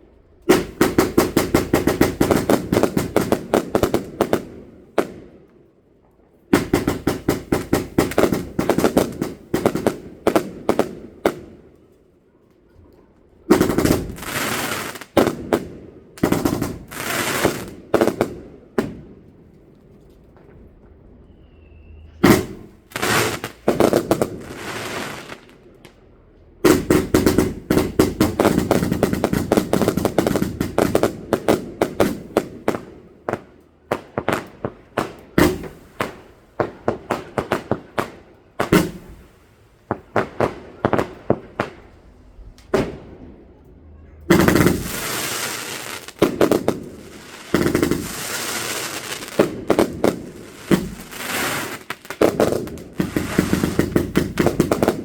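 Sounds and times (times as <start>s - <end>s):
fireworks cracks and bangs: 0.4s - 5.6s, 6.5s - 12.0s, 13.4s - 21.3s, 22.2s - 26.0s, 26.6s - 55.0s.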